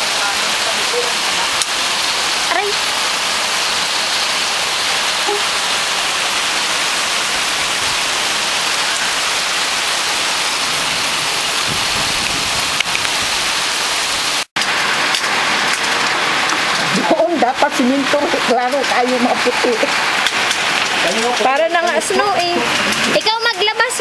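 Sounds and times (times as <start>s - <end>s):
hail and rain on pavement: 0.0s - 24.0s.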